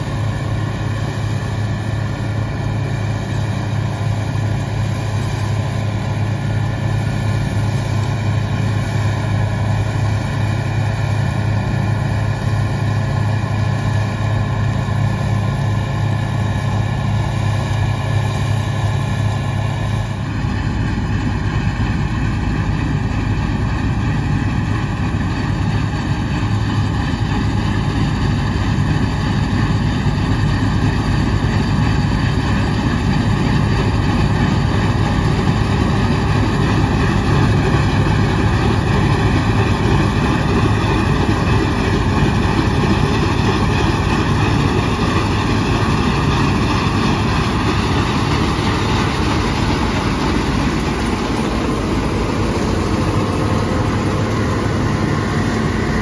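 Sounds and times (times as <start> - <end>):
combine harvester engine running: 0.0 - 56.0
harvesting machinery noise: 0.0 - 56.0.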